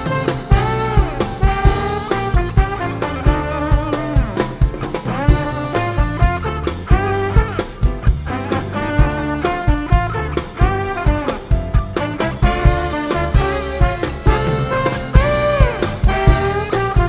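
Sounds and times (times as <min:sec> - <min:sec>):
bass line: 0:00.0 - 0:17.0
drum kit beat: 0:00.0 - 0:17.0
melodic lead with sliding notes: 0:00.0 - 0:17.0.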